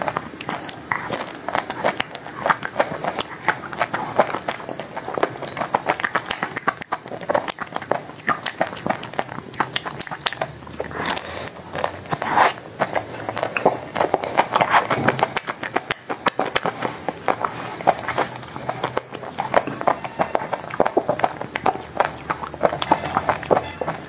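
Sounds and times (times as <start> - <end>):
chocolate shell crunching: 0.0 - 24.0
wet chewing and smacking: 0.0 - 24.0.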